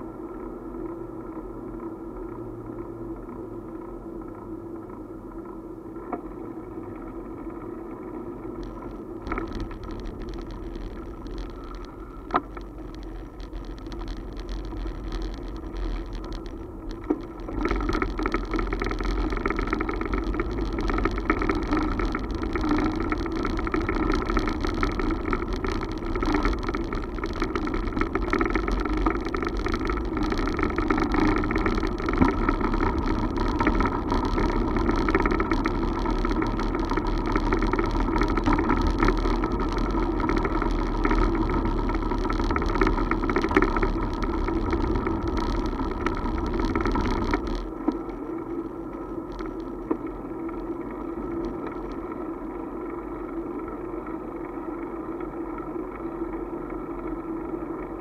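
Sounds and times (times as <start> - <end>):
two-wheeler road rumble: 0.0 - 58.0.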